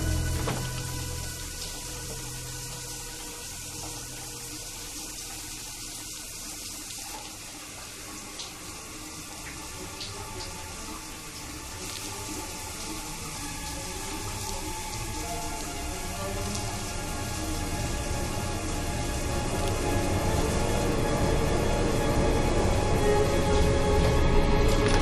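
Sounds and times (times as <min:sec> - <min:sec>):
shower water spraying: 0:00.0 - 0:25.0.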